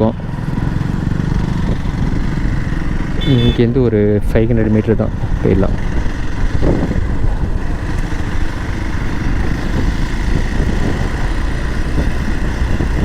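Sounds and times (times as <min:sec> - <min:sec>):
motorcycle engine rumble: 0:00.0 - 0:13.0
road noise: 0:00.0 - 0:13.0.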